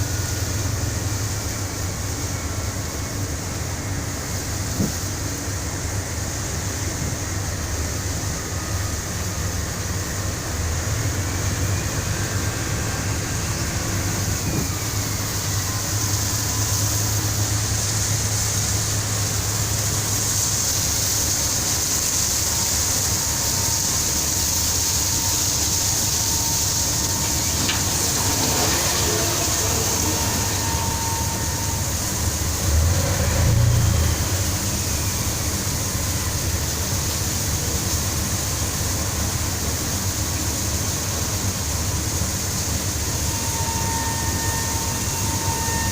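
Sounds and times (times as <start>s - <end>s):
constant hiss: 0.0s - 45.9s
ship engine rumble: 0.0s - 45.9s.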